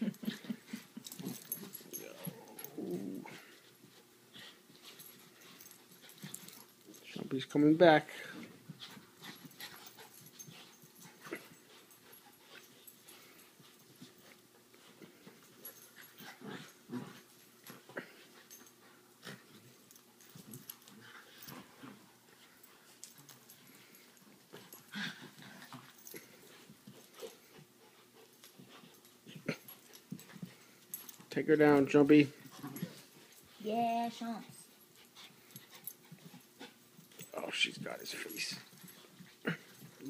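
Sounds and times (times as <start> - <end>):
puppies play-fighting noises: 0.0 - 40.0
puppies scuffling: 0.0 - 40.0.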